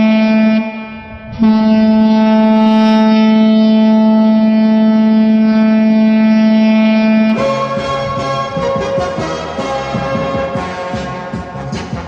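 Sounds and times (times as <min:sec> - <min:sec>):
deep goal horn blast: 0:00.0 - 0:12.0
music: 0:00.0 - 0:12.0.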